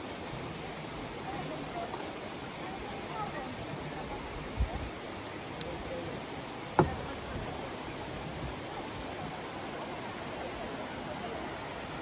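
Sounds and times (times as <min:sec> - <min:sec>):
shallow river over rocks: 0:00.0 - 0:12.0
faint voices: 0:00.6 - 0:12.0.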